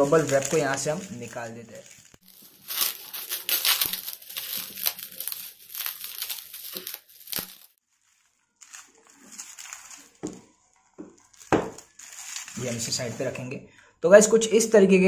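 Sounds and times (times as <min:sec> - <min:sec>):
bubble wrap crinkling: 0:00.0 - 0:13.5.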